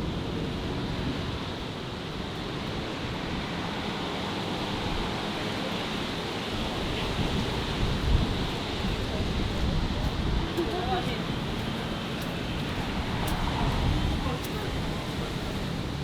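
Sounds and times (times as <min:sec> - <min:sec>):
city street ambience hiss: 0:00.0 - 0:16.0.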